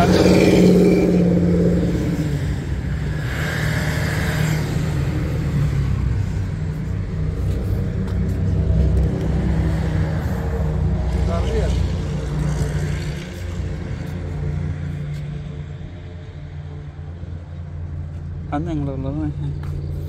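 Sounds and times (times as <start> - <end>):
car rumbling: 0.0 - 20.0.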